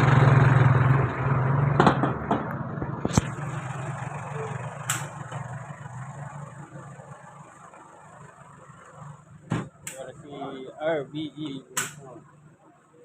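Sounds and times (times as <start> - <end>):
vehicle engine running: 0.0 - 12.5.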